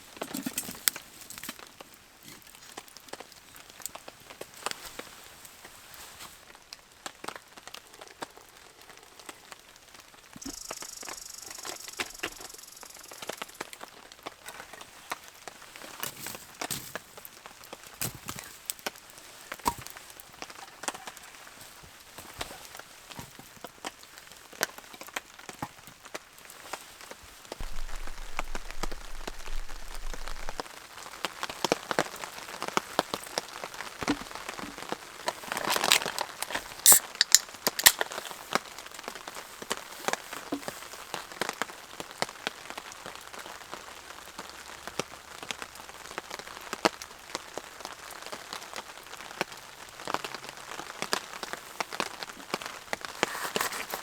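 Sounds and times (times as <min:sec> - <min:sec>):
rain patter on a tarp: 0:00.0 - 0:54.0.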